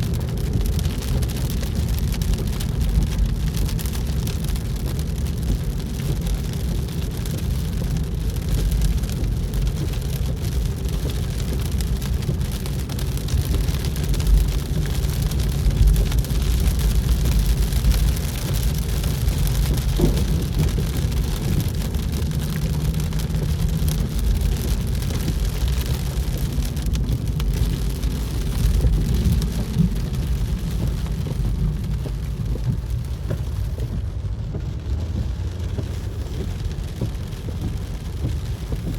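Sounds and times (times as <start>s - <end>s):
car road noise rumble: 0.0s - 38.9s
rain spattering on car: 0.0s - 38.9s.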